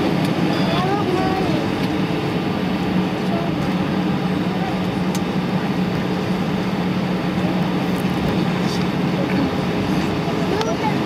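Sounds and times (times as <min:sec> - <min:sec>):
jet engines at low power: 0:00.0 - 0:11.0
low cabin hum: 0:00.0 - 0:11.0.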